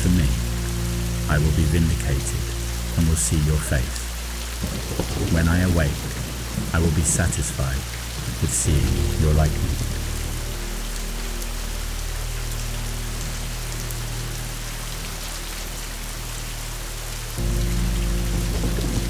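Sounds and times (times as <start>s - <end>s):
low musical drone: 0.0s - 19.0s
steady rainfall: 0.0s - 19.0s.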